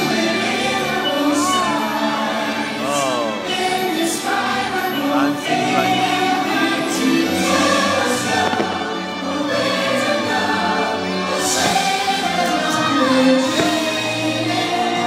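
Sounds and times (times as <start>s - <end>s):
choir singing long held notes: 0.0s - 15.0s
music: 0.0s - 15.0s.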